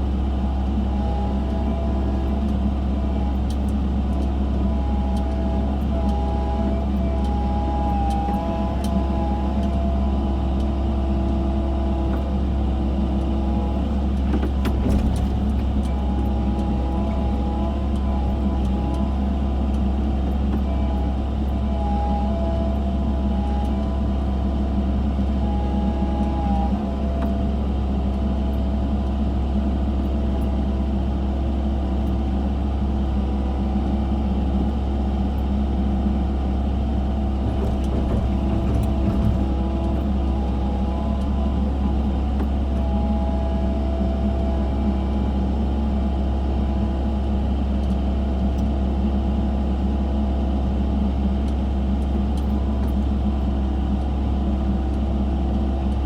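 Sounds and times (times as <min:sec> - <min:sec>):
excavator engine rumbling: 0:00.0 - 0:56.0.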